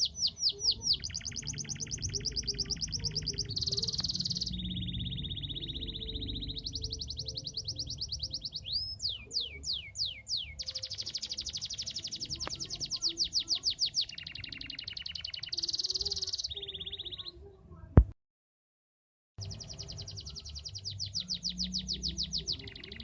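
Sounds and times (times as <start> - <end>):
canary singing: 0.0 - 17.6, 19.4 - 23.0.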